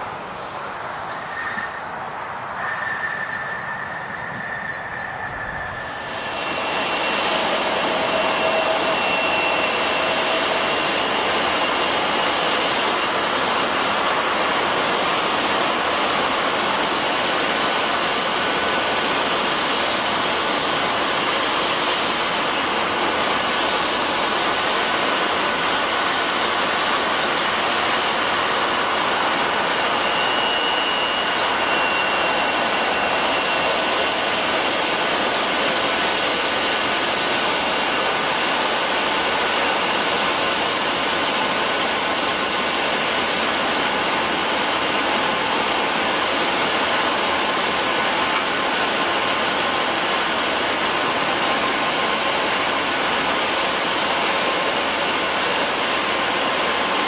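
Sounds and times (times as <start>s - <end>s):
faint high whine: 0.0s - 57.0s
jet engines roaring: 0.0s - 57.0s.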